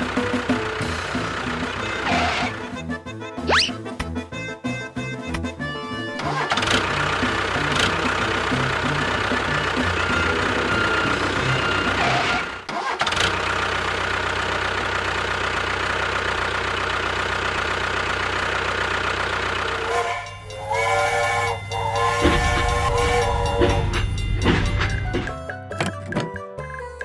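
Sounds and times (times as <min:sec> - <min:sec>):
engine running: 0:00.0 - 0:25.5.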